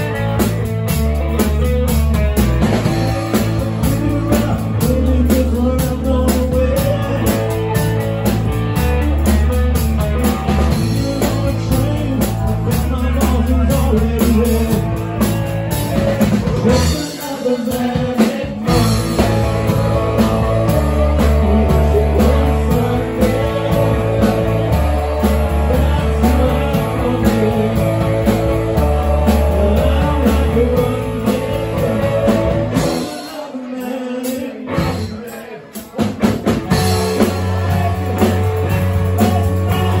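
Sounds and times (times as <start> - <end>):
electric guitar: 0.0 - 33.5, 34.6 - 40.0
bass guitar: 0.0 - 40.0
drum kit: 0.0 - 40.0
person singing: 2.7 - 40.0.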